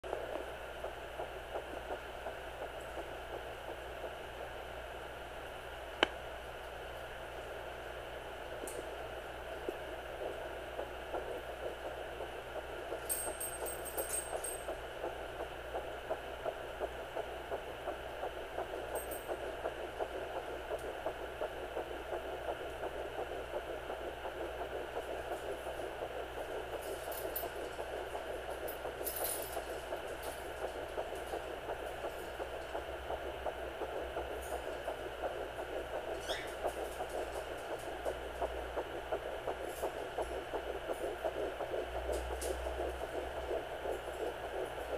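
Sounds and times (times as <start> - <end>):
fetal heartbeat whooshing pulse: 0.0 - 5.1, 7.4 - 44.9.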